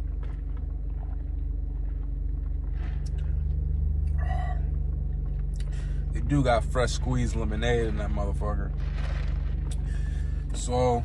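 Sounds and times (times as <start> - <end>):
idling car hum: 0.0 - 11.0.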